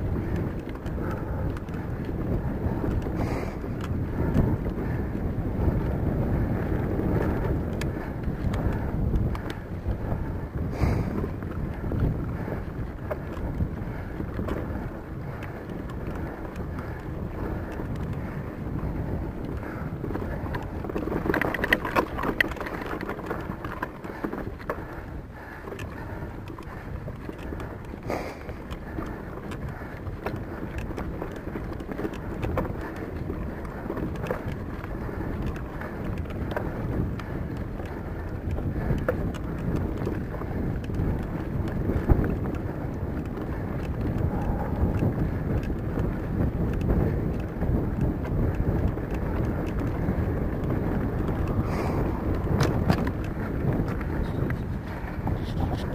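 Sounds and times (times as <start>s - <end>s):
wind buffeting microphone: 0.0s - 55.9s
faint clicks: 7.2s - 10.2s, 10.8s - 55.9s.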